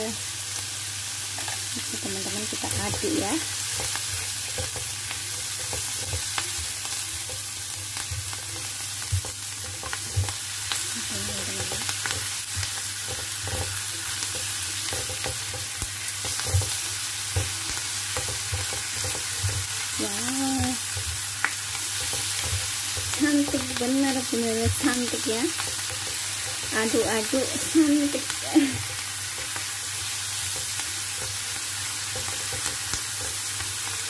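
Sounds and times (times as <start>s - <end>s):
food sizzling in a frying pan: 0.0s - 34.0s
spatula scraping and tapping pan: 2.5s - 33.9s.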